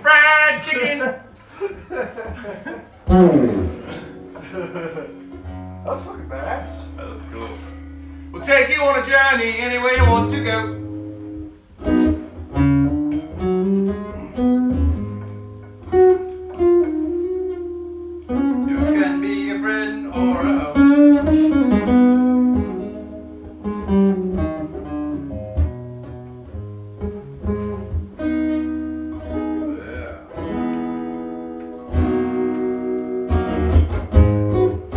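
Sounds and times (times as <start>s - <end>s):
guitar playing: 0.0s - 34.9s.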